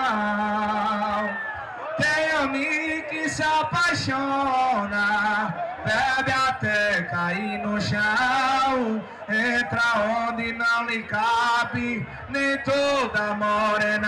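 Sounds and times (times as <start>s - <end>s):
man singing: 0.0s - 1.4s, 2.0s - 14.0s.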